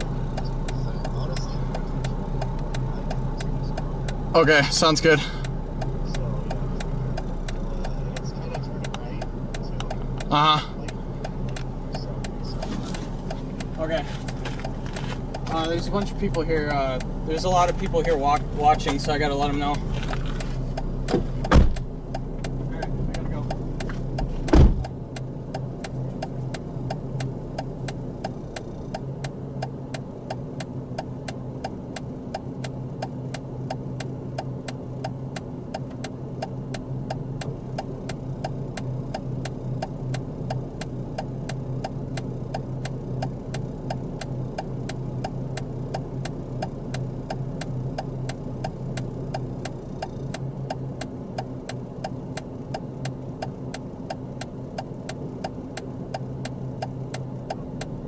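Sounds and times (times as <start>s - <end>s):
car engine idling: 0.0s - 58.0s
even ticking clicks: 0.0s - 58.0s.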